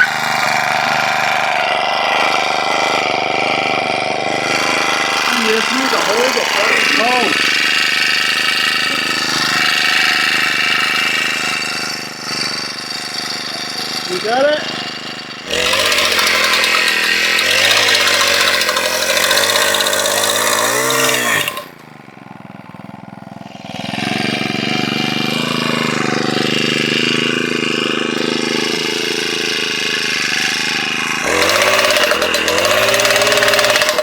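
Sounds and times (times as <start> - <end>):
post driver engine hammering: 0.0 - 34.0.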